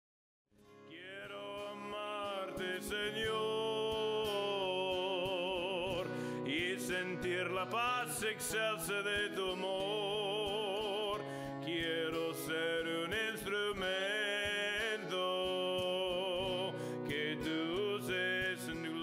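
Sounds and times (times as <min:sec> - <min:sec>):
person singing with vibrato: 0:00.9 - 0:19.0.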